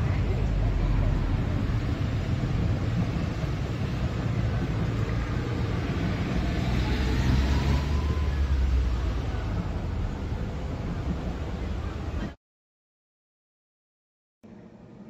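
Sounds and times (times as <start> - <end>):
distant freight train rumble: 0.0 - 12.4.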